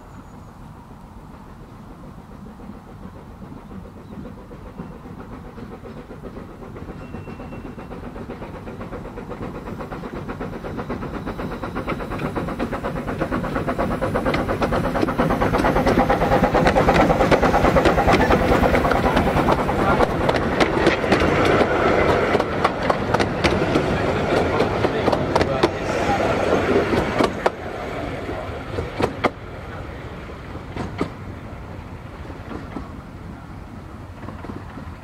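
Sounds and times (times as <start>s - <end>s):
steam engine exhaust beats: 0.0s - 35.0s
train running on rails: 0.0s - 35.0s.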